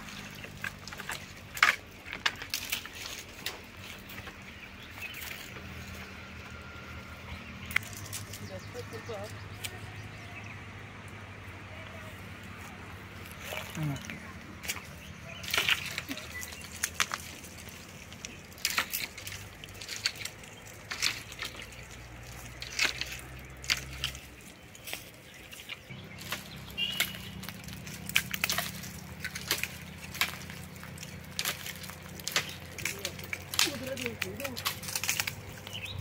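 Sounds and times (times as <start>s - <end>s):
branches snapping and knocking: 0.0s - 10.0s, 12.4s - 36.0s
leaves rustling: 0.0s - 36.0s.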